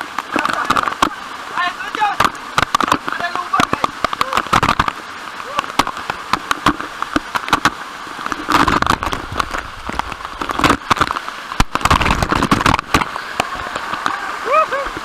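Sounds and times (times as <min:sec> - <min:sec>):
waterfall water splashing on microphone: 0:00.0 - 0:15.0.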